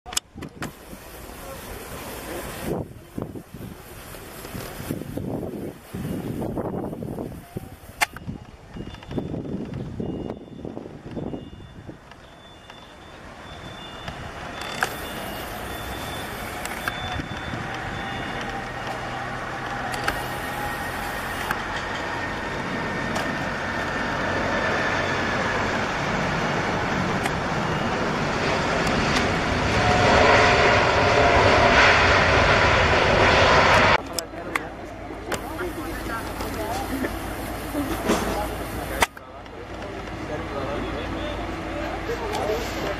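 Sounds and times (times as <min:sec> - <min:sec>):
jet engine of landing plane: 0:00.1 - 0:42.9.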